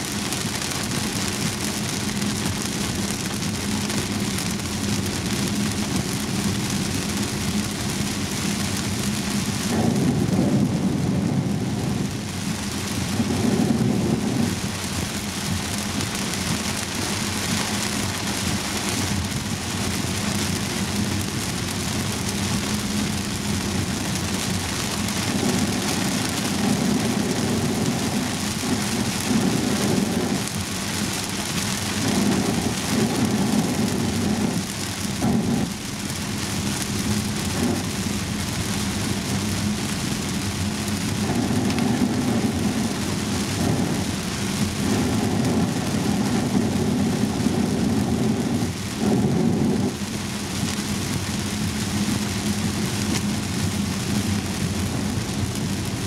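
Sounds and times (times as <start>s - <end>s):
car rumbling on wet road: 0.0s - 56.0s
heavy rain on car roof: 0.0s - 56.0s.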